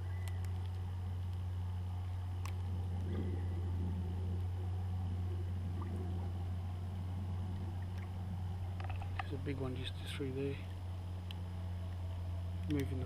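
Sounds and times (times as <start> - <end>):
soft water sloshing: 0.0 - 13.0
steady low hum: 0.0 - 13.0.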